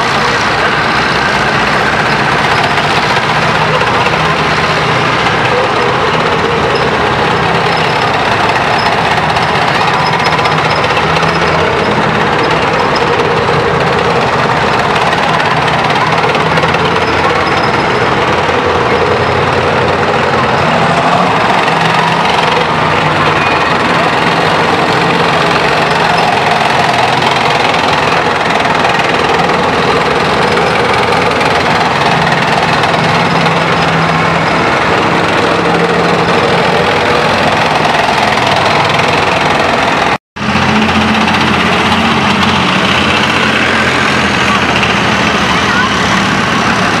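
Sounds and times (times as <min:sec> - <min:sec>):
diesel engines running: 0:00.0 - 0:47.0
tracks rolling on road: 0:00.0 - 0:47.0.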